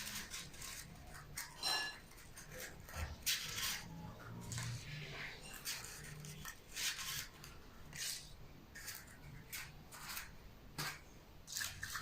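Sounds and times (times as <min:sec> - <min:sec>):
utensil scraping batter in pan: 0:00.0 - 0:12.0.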